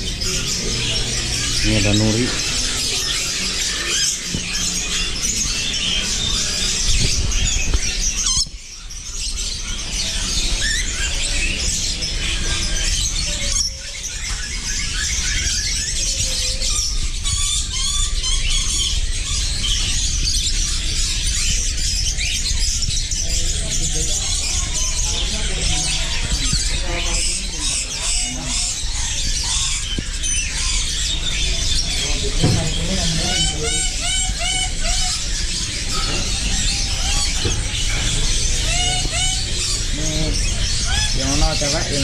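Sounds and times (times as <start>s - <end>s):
caged birds chirping and whistling: 0.0s - 42.0s.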